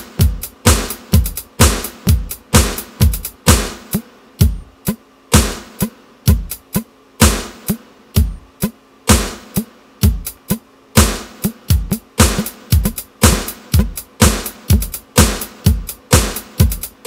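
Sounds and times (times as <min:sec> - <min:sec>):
hi-hat and snare hits: 0:00.0 - 0:17.0.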